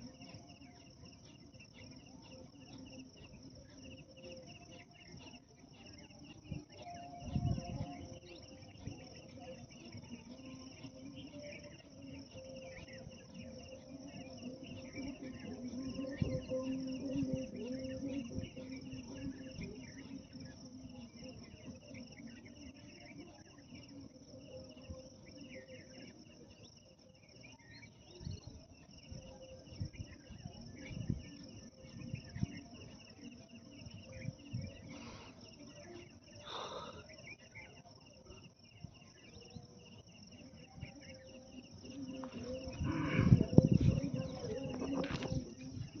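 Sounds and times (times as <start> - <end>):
crickets chirring: 0.0 - 46.0.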